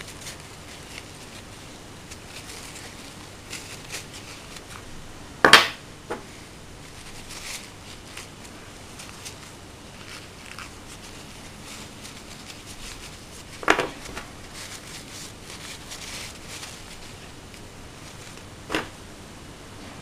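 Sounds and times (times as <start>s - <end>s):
paper tissue rustling: 0.0s - 5.2s, 6.2s - 19.2s.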